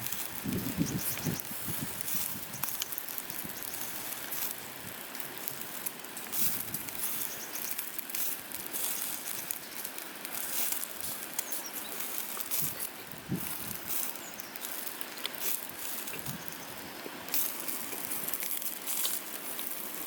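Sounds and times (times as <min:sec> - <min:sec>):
fire popping: 0:00.0 - 0:20.0
wood fire crackling and hissing: 0:00.0 - 0:20.0.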